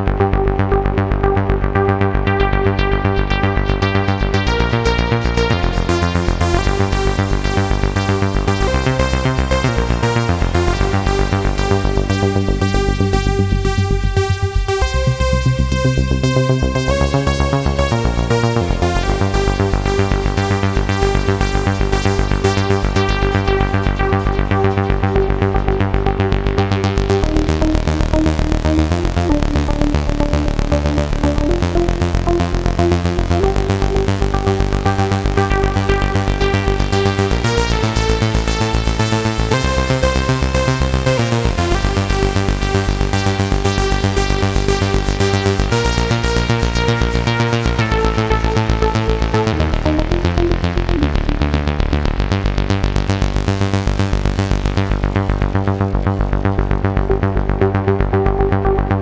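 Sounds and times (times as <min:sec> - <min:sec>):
sequenced synthesizer pattern: 0:00.0 - 0:59.0
synth bass: 0:00.0 - 0:59.0.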